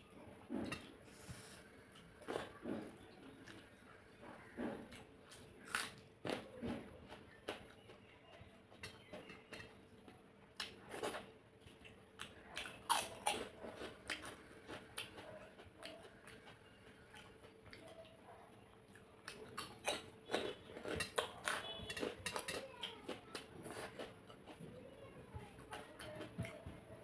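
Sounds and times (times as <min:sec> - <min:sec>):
person chewing food: 0:00.2 - 0:24.7.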